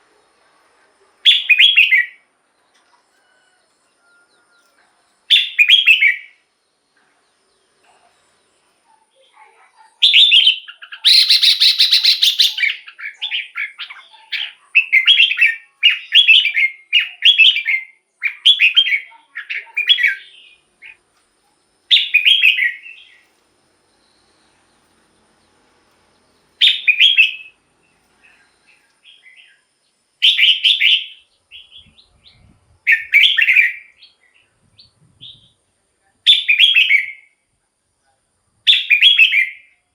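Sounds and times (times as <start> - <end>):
bird singing chirpy phrases: 0.0 - 2.8, 4.7 - 37.4, 38.7 - 39.8.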